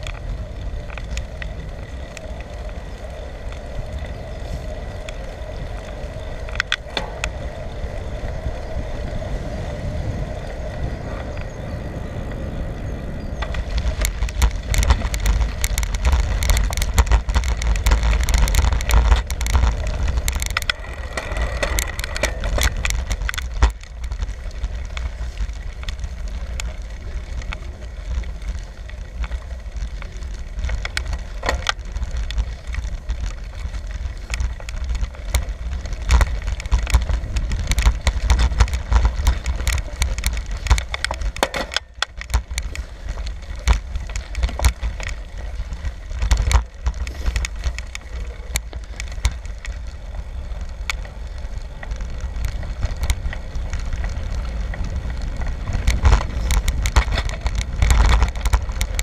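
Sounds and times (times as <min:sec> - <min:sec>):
bike clicks and rattles: 0:00.0 - 0:59.0
wind rumble on microphone: 0:00.0 - 0:59.0.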